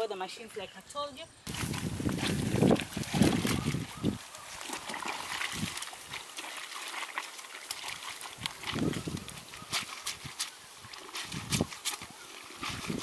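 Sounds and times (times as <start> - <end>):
cloth sloshing in water: 1.5 - 13.0
water trickling and dripping: 1.6 - 13.0.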